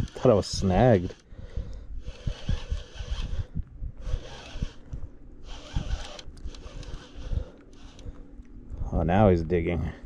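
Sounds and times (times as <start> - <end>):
fishing reel whirring: 0.0 - 8.3.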